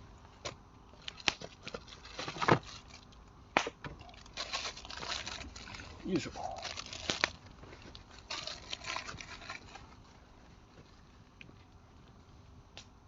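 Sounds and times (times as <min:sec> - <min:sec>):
bonfire crackling and popping: 0:00.2 - 0:13.0.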